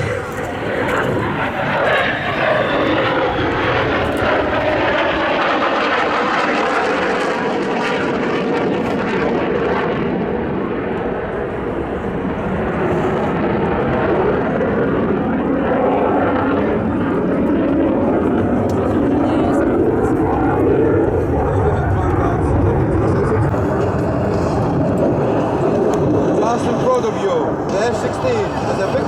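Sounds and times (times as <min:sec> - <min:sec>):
fighter jet engine passing: 0:00.0 - 0:29.0.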